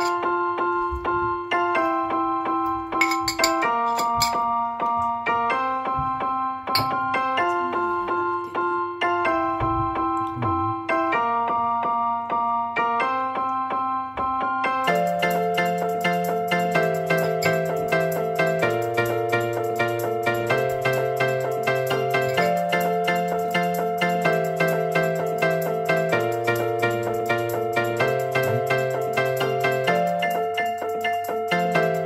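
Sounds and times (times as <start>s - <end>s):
held keyboard chords: 0.0s - 32.0s.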